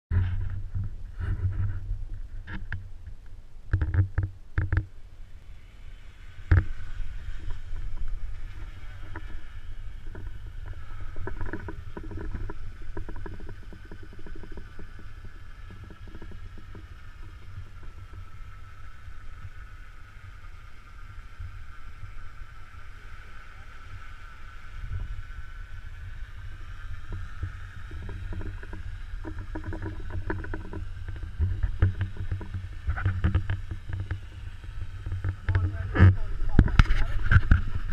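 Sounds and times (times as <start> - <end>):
wind rumbling on microphone: 0.1 - 37.9.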